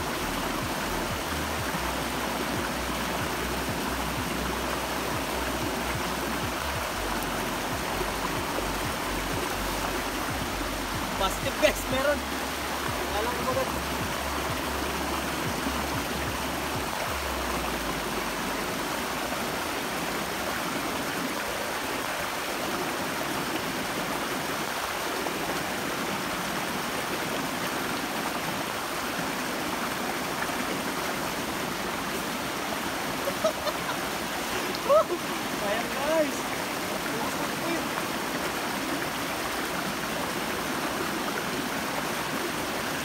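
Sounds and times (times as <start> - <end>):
mountain stream flowing over boulders: 0.0 - 43.0.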